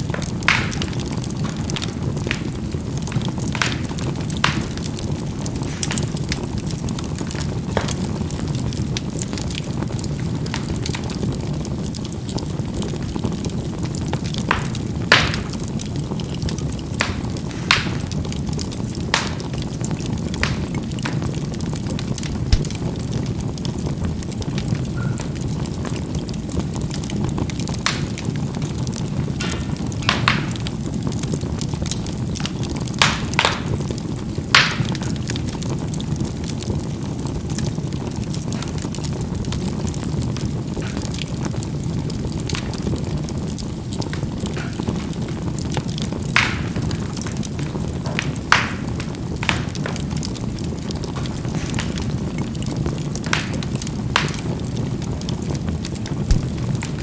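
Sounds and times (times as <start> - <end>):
charcoal fire rushing: 0.0 - 57.0
coals popping and crackling: 0.0 - 57.0.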